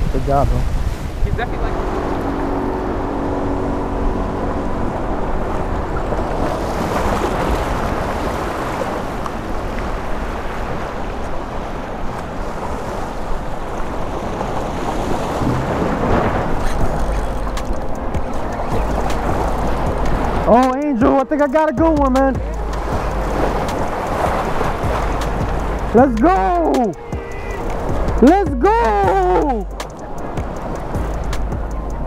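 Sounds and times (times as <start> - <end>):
waves washing against rocks: 0.0 - 31.5
wind buffeting microphone: 0.0 - 32.0.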